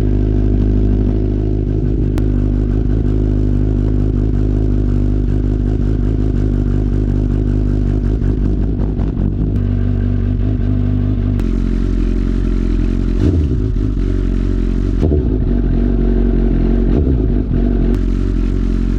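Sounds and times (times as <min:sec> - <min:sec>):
motorcycle engine idling: 0:00.0 - 0:18.9
motorcycle throttle blips: 0:00.0 - 0:18.9.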